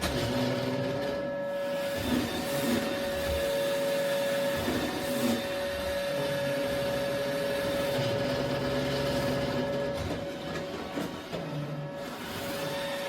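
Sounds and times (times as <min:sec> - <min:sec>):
robot vacuum motor hum: 0:00.0 - 0:13.0.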